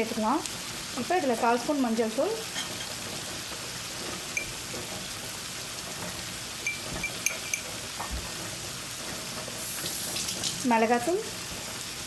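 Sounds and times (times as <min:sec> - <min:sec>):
paste sizzling in a pan: 0:00.0 - 0:12.0.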